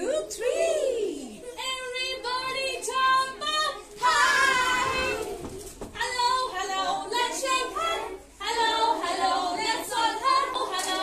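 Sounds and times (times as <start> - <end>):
children singing: 1.3 - 11.0.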